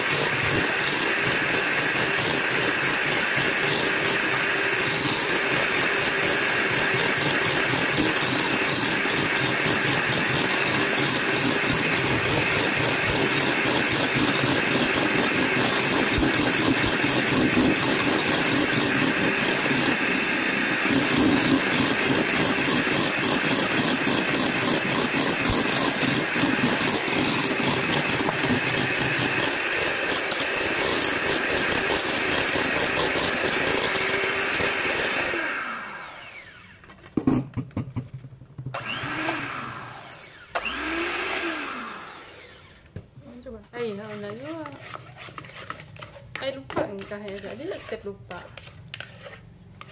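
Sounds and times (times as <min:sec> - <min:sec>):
electric hand mixer whipping: 0:00.0 - 0:36.9, 0:38.7 - 0:43.0, 0:43.8 - 0:49.9.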